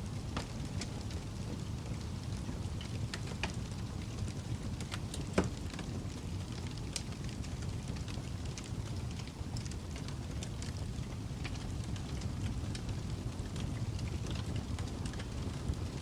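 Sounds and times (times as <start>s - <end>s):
campfire crackling and popping: 0.1s - 16.0s.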